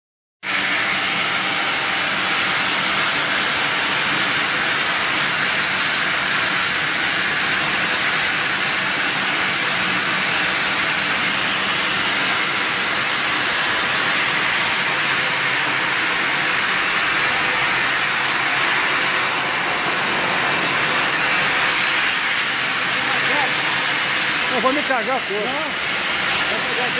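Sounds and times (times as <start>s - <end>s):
saw blade grinding stone: 0.5s - 26.9s.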